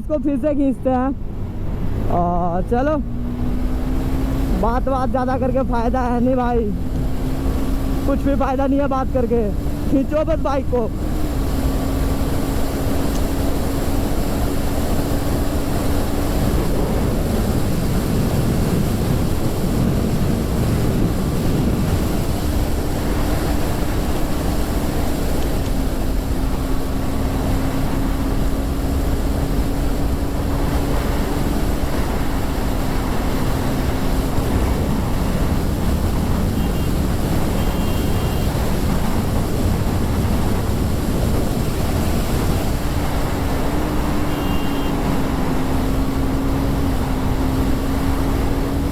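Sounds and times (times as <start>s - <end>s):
wind rushing over microphone: 0.0s - 48.9s
motorcycle engine running: 1.2s - 48.9s.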